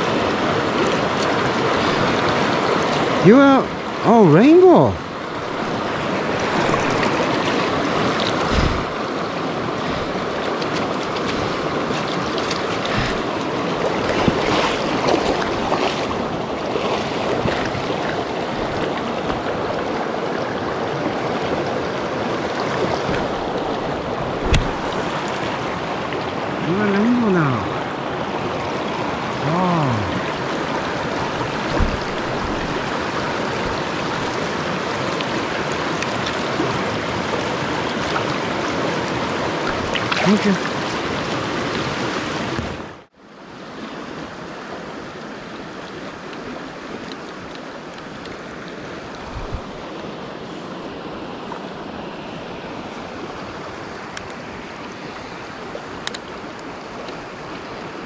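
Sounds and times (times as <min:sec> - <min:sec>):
creek running over stones: 0:00.0 - 0:58.0.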